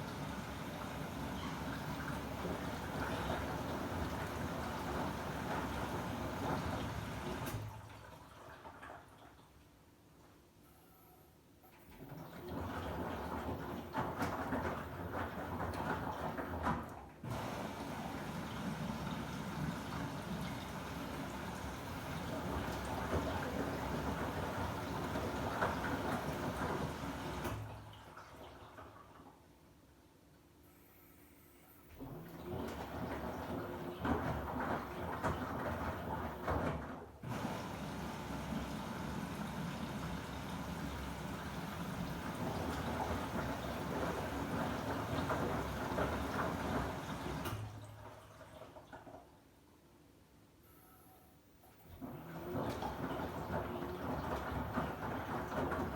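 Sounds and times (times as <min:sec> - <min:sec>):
water sloshing in washing machine: 0:00.0 - 0:09.8, 0:11.7 - 0:29.6, 0:32.0 - 0:49.4, 0:51.8 - 0:55.9.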